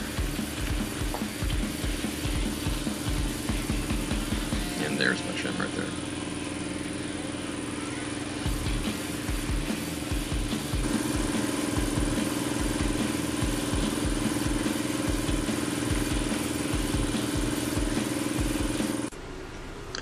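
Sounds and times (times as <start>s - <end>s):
machine humming with whine: 0.0s - 20.0s.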